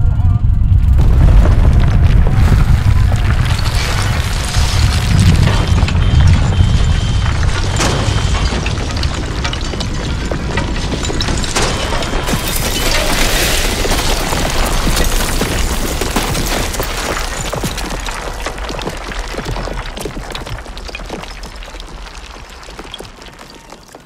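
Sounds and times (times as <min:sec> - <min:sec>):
deep rumble: 0:00.0 - 0:22.8
cracking and falling debris: 0:01.0 - 0:24.0.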